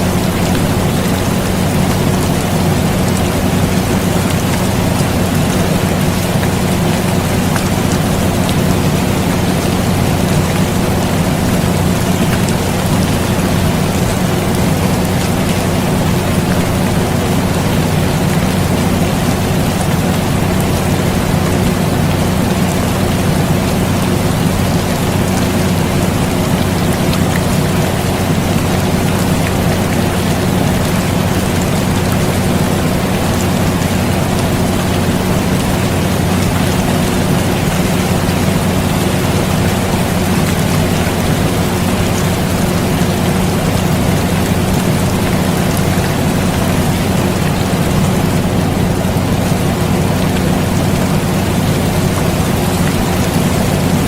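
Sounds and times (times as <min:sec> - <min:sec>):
air conditioner humming: 0:00.0 - 0:54.0
rain hiss: 0:00.0 - 0:54.0
raindrop ticks: 0:00.0 - 0:54.0.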